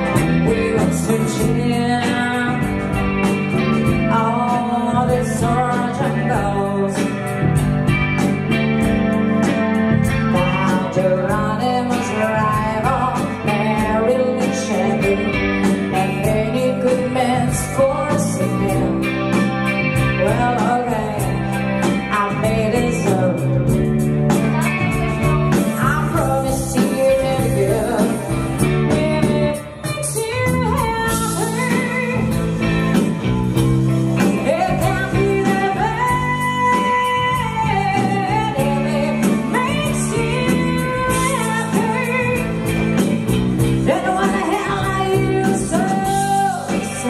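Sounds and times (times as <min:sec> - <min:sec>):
bass guitar: 0:00.0 - 0:47.0
drums: 0:00.0 - 0:47.0
electric guitar: 0:00.0 - 0:47.0
woman singing: 0:00.0 - 0:47.0.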